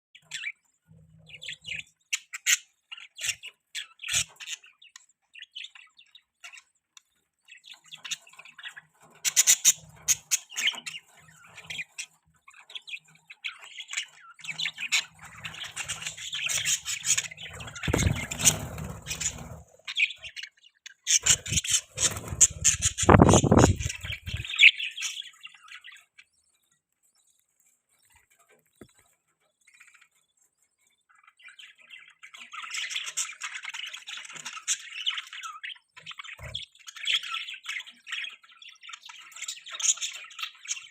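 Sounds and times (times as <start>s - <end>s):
budgerigars chirping: 0.2s - 26.5s, 31.0s - 40.9s.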